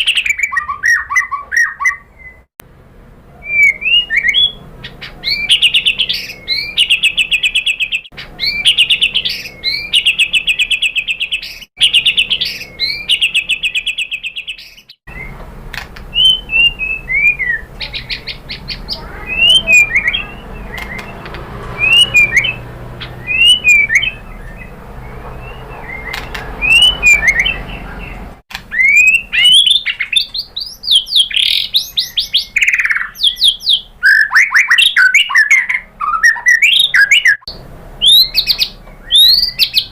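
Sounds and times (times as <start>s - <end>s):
bird whistled chirps: 0.0s - 2.5s, 3.4s - 15.4s, 16.1s - 39.9s
songbird buzzy trills: 3.4s - 39.9s.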